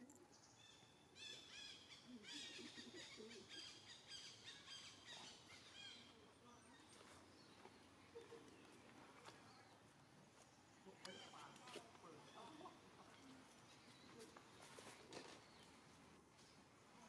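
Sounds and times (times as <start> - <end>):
faint birdsong chirps: 0.0 - 17.0.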